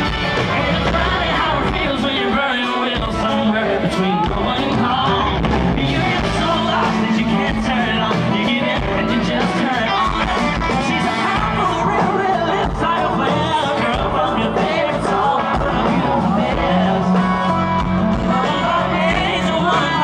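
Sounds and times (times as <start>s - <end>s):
live country band playing: 0.0s - 20.0s
man singing: 0.0s - 20.0s.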